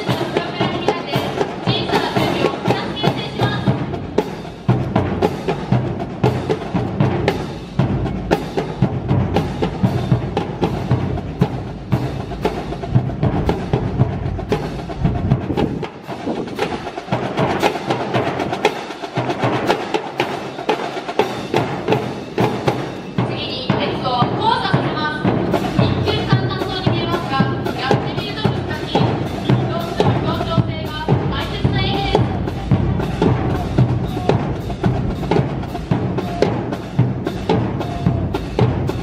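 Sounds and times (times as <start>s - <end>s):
drum-led music over loudspeakers: 0.0s - 39.0s.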